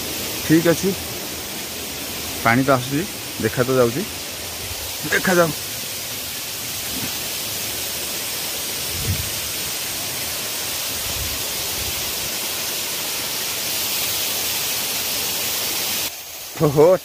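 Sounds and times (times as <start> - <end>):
waterfall rushing hiss: 0.0 - 17.0.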